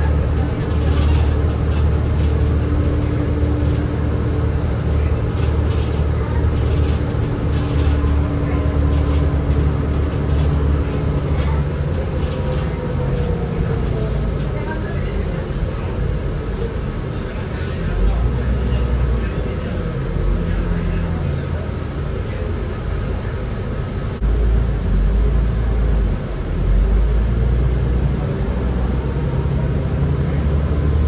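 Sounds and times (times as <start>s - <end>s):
bus engine rumble: 0.0s - 31.0s.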